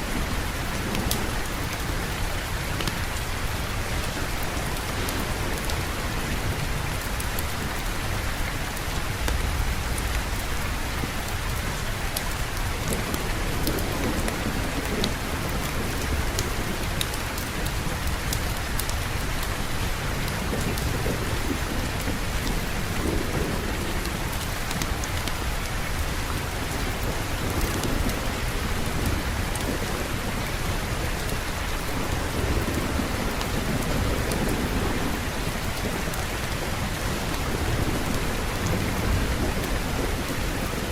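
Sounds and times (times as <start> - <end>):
heavy rain: 0.0 - 40.9
thunder rumbling: 0.0 - 40.9.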